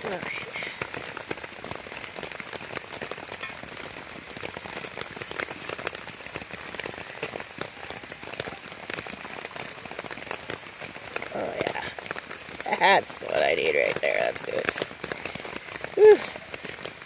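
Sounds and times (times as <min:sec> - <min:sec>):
raindrops ticking on surfaces: 0:00.0 - 0:17.0
steady rain falling: 0:00.0 - 0:17.0.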